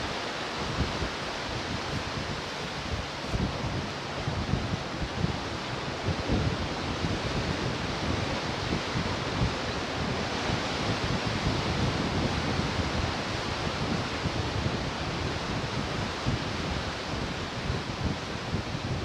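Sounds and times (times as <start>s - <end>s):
ocean surf washing on shore: 0.0s - 19.0s
wind buffeting microphone: 0.0s - 19.0s.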